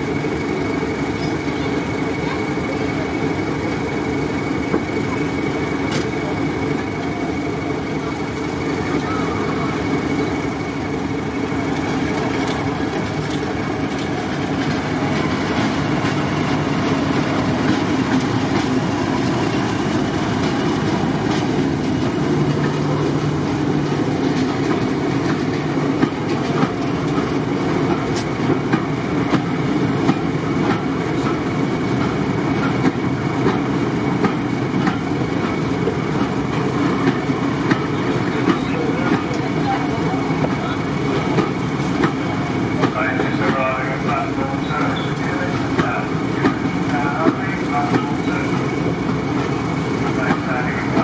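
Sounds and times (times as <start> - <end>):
train rumble: 0.0 - 51.0
wheels clacking over rail joints: 1.1 - 51.0.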